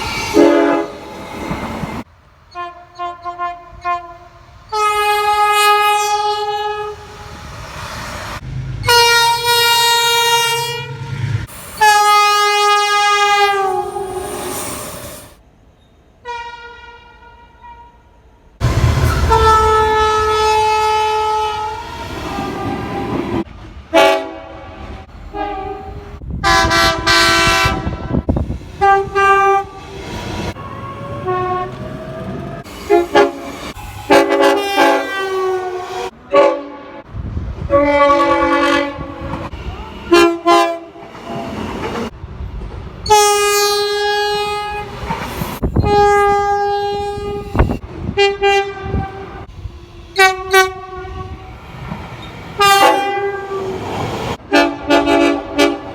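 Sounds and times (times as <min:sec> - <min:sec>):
train horn blasts: 0:00.0 - 0:01.1, 0:02.5 - 0:07.3, 0:08.8 - 0:14.3, 0:16.2 - 0:18.2, 0:18.8 - 0:29.8, 0:30.5 - 0:41.6, 0:43.0 - 0:51.6, 0:52.6 - 0:55.9
train rumble: 0:00.0 - 0:15.8, 0:18.2 - 0:55.9.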